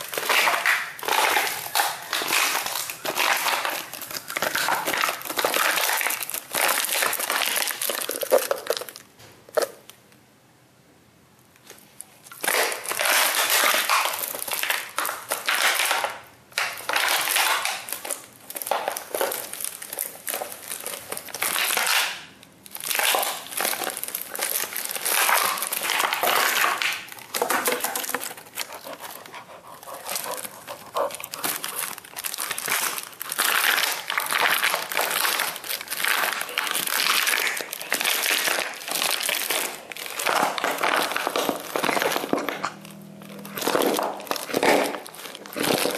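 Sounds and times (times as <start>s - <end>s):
dog chewing plastic bottle: 0.0s - 9.9s, 12.2s - 45.9s.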